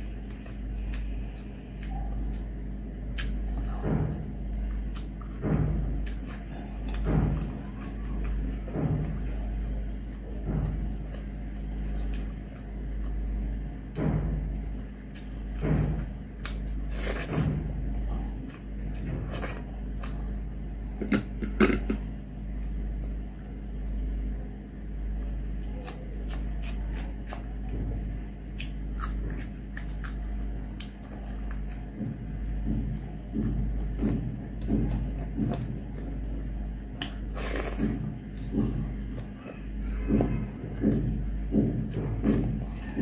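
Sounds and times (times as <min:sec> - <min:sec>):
chewing with wet smacks: 0:00.0 - 0:20.7, 0:25.2 - 0:43.0
steady low hum: 0:00.0 - 0:43.0.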